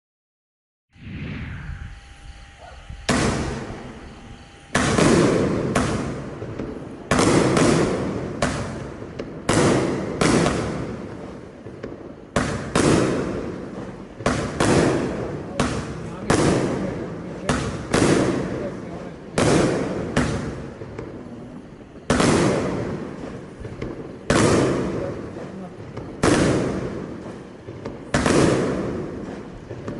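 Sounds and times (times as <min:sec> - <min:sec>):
firework bangs: 0:01.0 - 0:29.9.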